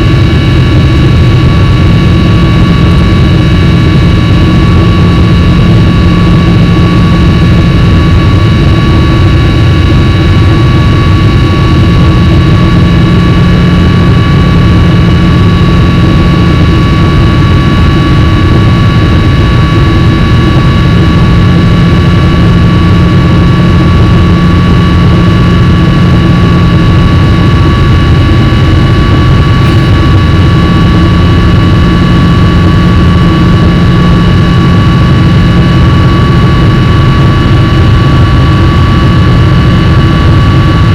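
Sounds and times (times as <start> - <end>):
high steady jet whine: 0.0 - 40.9
jet engines rumbling: 0.0 - 40.9.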